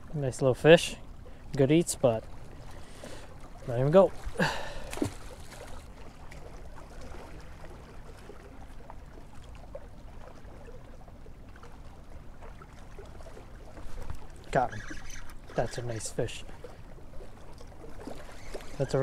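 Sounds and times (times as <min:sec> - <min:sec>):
waves lapping against rocks: 0:00.0 - 0:19.0.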